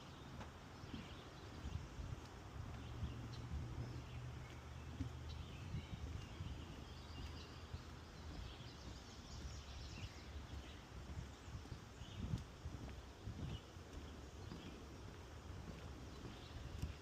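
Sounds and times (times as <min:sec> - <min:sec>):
birds chirping and singing: 0:00.0 - 0:17.0
footsteps on wooden boardwalk: 0:00.0 - 0:17.0.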